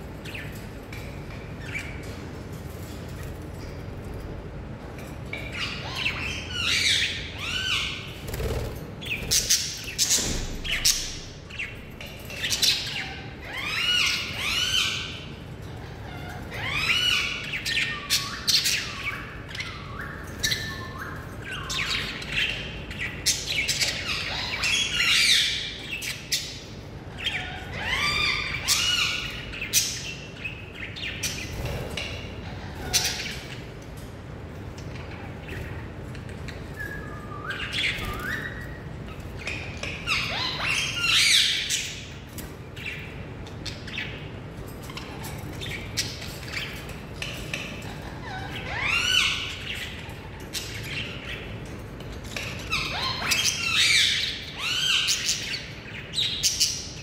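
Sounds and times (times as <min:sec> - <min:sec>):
parakeet chirps and squawks: 0:05.4 - 0:33.7, 0:34.8 - 0:42.1, 0:44.8 - 0:51.6, 0:52.2 - 0:57.0.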